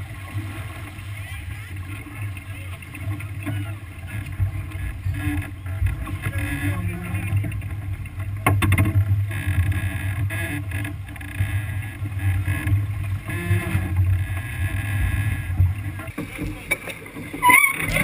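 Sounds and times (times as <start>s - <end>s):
water washing along hull: 0.0s - 18.0s.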